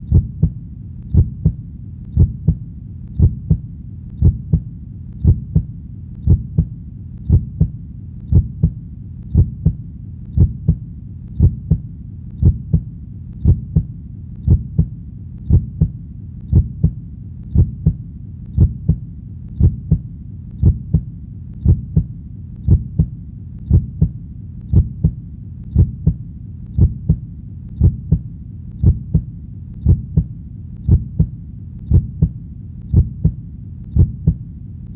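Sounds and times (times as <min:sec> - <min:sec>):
constant low hum: 0:00.0 - 0:34.9
heartbeat: 0:00.0 - 0:34.9.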